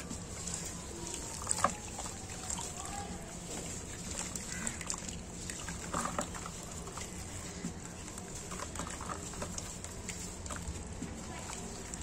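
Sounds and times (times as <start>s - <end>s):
cement crumbs pattering into water: 0.0s - 12.0s.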